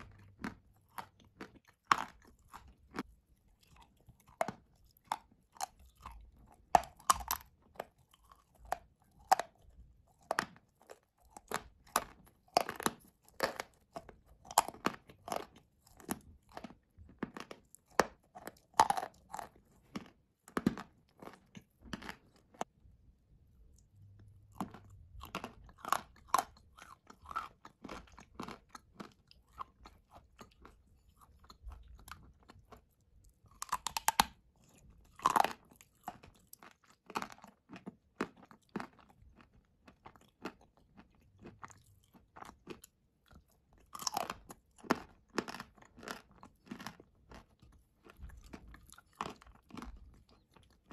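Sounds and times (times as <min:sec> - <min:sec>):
person chewing and crunching: 0:00.0 - 0:22.8, 0:23.4 - 0:50.9.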